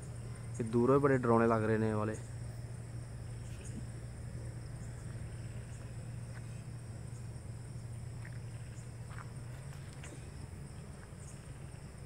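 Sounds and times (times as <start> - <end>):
crickets chirring: 0.0 - 12.0
low steady hum: 0.0 - 12.0.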